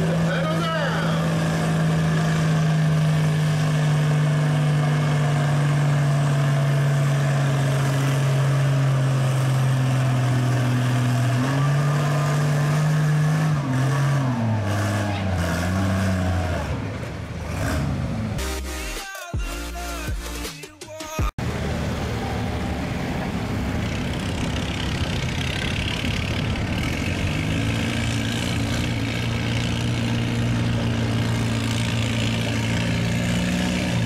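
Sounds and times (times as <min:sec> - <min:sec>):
tractor engine revving: 0:00.0 - 0:18.9, 0:21.4 - 0:34.0.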